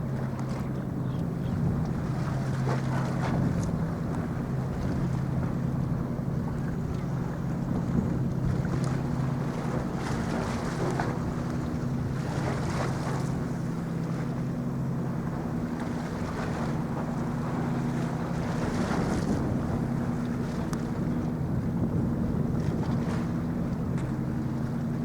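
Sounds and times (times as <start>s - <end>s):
wind noise on microphone: 0.0s - 13.3s, 16.0s - 25.0s
ship engine droning: 0.0s - 25.0s.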